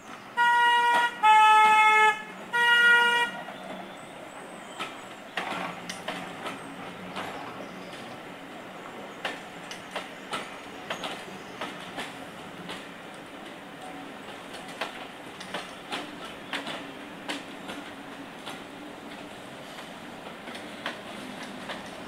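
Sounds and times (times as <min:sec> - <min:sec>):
train rumble: 0:00.0 - 0:22.0
train wheels clickety-clack: 0:00.0 - 0:22.0.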